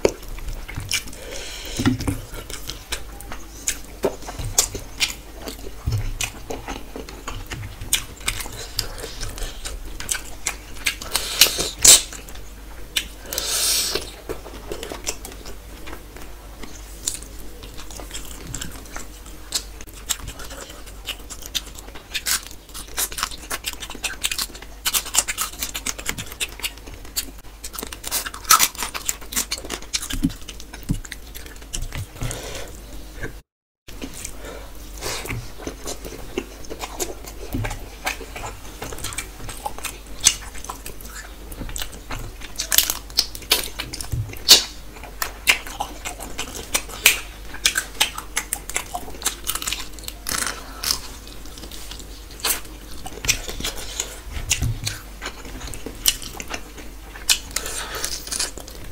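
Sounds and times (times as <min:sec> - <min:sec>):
chewing and crunching: 0:00.0 - 0:58.9.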